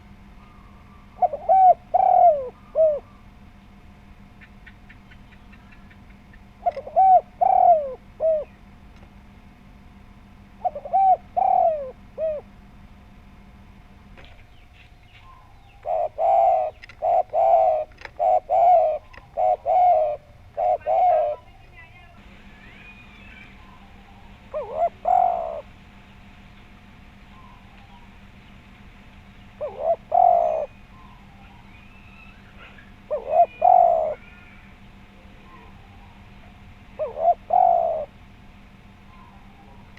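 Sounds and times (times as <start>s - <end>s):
dove cooing: 0.0s - 8.7s, 10.0s - 12.6s, 14.2s - 39.9s.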